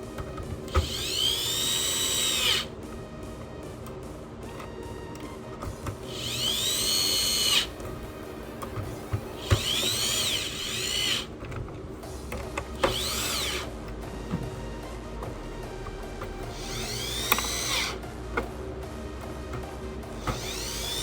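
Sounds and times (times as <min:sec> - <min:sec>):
electric screwdriver whining: 0:00.0 - 0:03.4, 0:04.5 - 0:18.6, 0:19.4 - 0:21.0.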